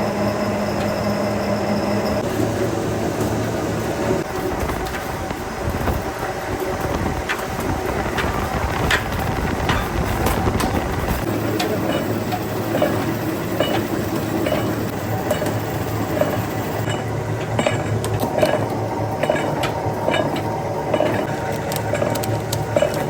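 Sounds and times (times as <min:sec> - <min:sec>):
factory machinery humming: 0:00.0 - 0:23.0.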